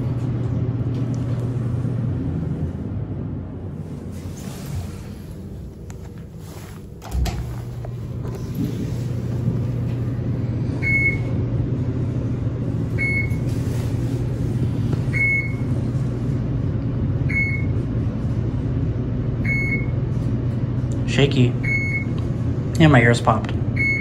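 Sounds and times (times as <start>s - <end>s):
elevator hum and rumble: 0.0s - 24.0s.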